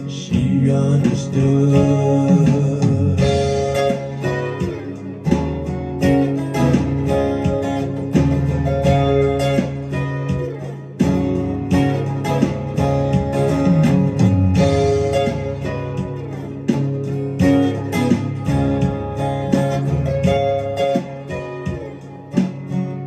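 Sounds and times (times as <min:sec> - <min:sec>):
low held bass notes: 0:00.0 - 0:23.0
plucked and strummed guitar: 0:00.0 - 0:23.0.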